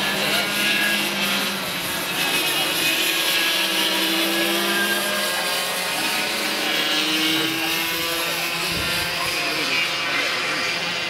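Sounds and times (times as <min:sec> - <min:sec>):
go-kart engines passing: 0:00.0 - 0:11.0.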